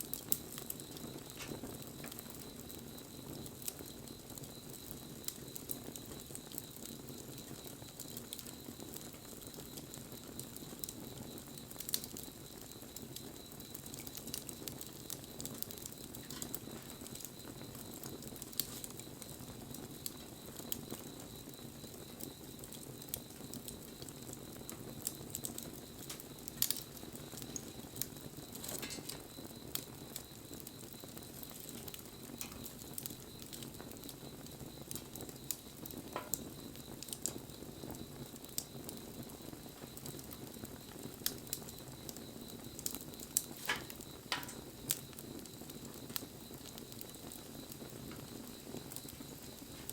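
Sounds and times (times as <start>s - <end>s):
bonfire flames rushing: 0.0s - 49.9s
fire crackling and popping: 0.0s - 49.9s.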